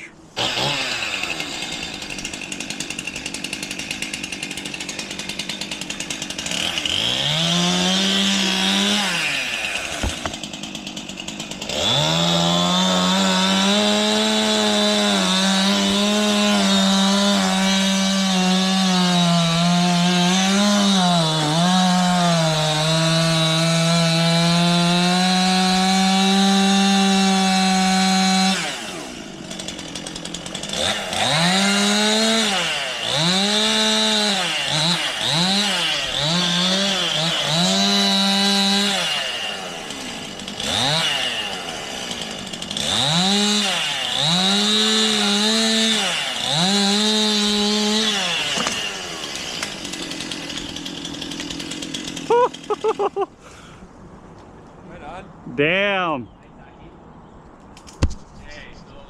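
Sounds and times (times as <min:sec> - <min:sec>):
chainsaw cutting wood: 0:00.0 - 0:53.8.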